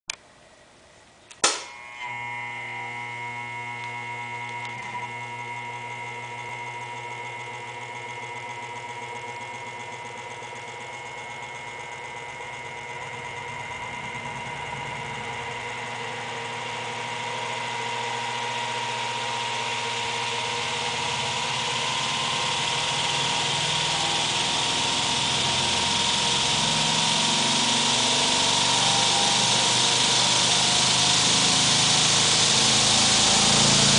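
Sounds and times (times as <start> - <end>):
motor and wheel humming: 1.4 - 33.9.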